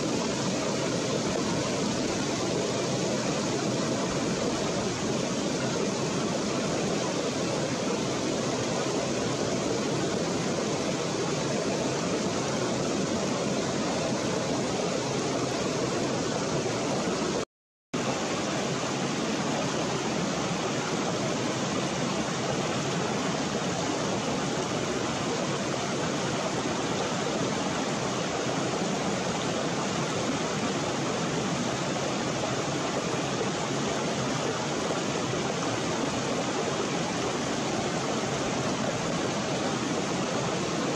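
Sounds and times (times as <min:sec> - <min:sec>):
stream flowing over stones: 0:00.0 - 0:17.4, 0:18.0 - 0:40.9.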